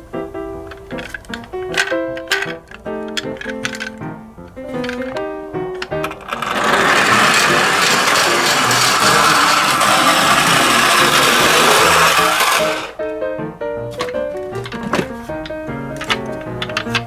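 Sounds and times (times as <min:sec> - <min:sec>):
background music: 0:00.0 - 0:17.0
toy cars rolling on cardboard: 0:00.7 - 0:13.0, 0:14.0 - 0:17.0.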